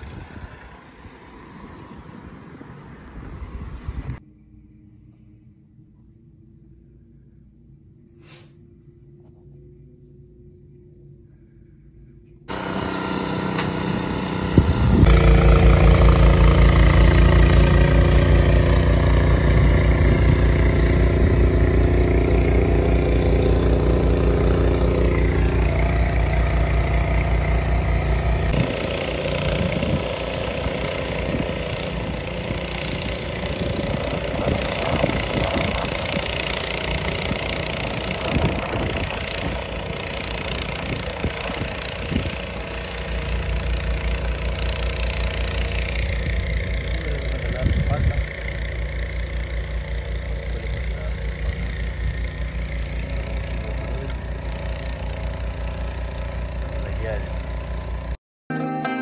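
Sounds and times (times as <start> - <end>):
engine humming: 0.0 - 7.2, 8.5 - 58.2.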